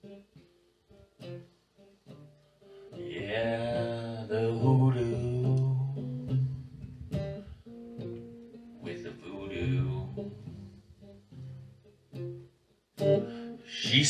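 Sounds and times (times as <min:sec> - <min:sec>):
electric guitar blues playing: 0:00.0 - 0:14.0.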